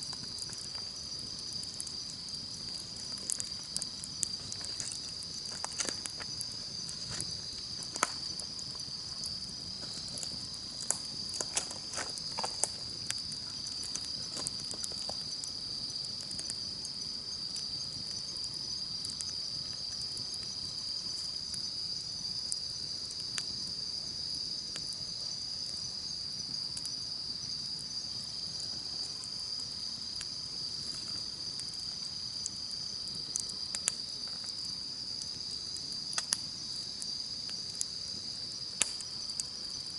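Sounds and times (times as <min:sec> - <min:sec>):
campfire crackling: 0:00.0 - 0:39.9
insects trilling: 0:00.0 - 0:39.9.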